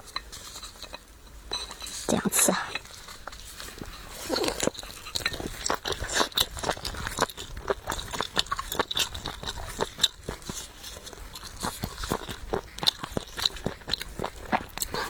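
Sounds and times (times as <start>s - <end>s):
person chewing crunchy food: 2.7s - 15.0s.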